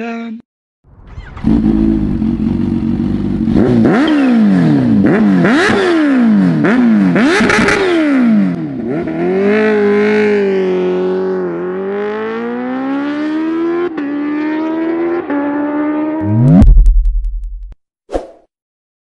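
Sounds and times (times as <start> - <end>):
motorcycle engine revving: 1.0 - 17.0.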